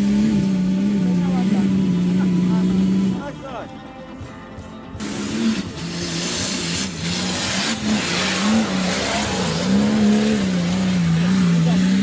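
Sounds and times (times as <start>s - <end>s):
engine revving under load: 0.0s - 3.6s, 5.0s - 12.0s.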